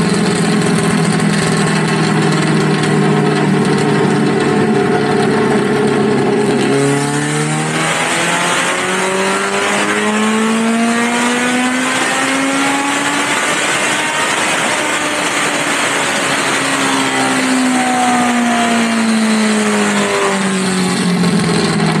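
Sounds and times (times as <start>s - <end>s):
race car engine revving under load: 0.0s - 22.0s.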